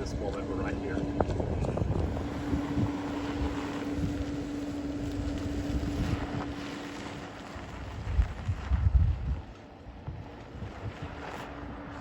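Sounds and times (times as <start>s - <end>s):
steady hum: 0.0s - 12.0s
wind buffeting microphone: 0.0s - 12.0s.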